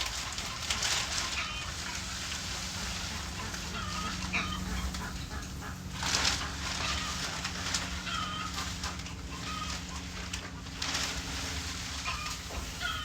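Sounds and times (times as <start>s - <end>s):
hay rustling: 0.0s - 13.0s
poultry calling: 0.0s - 13.0s
steady low hum: 0.0s - 13.0s.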